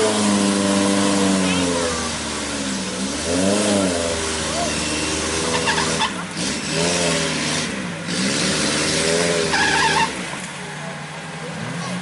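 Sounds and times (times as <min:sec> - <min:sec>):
jeep engine revving: 0:00.0 - 0:12.0.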